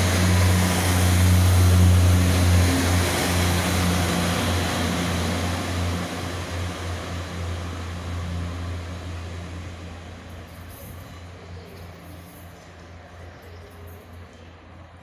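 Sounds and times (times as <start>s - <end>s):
diesel train engine humming: 0.0s - 12.7s.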